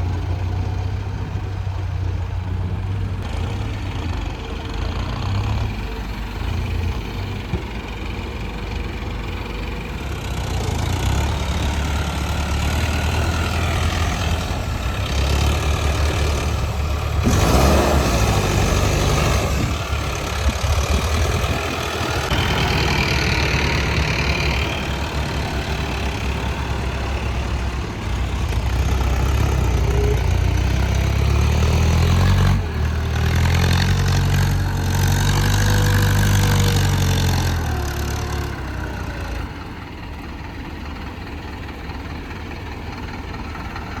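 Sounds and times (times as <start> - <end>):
diesel engines running: 0.0 - 44.0.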